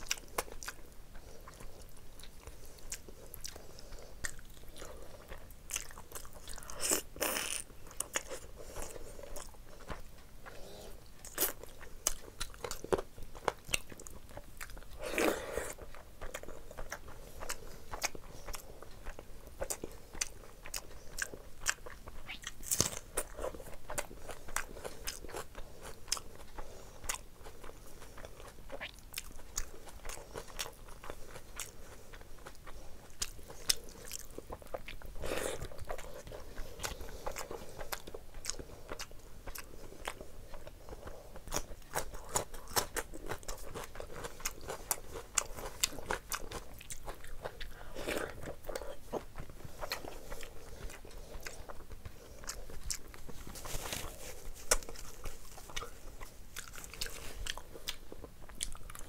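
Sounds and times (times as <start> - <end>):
person chewing rice: 0.0 - 59.0.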